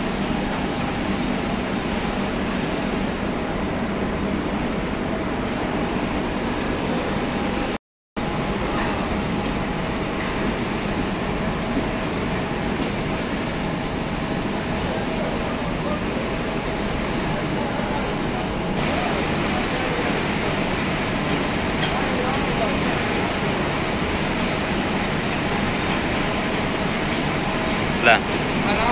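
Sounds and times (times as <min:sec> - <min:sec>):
industrial machinery running: 0:00.0 - 0:28.9.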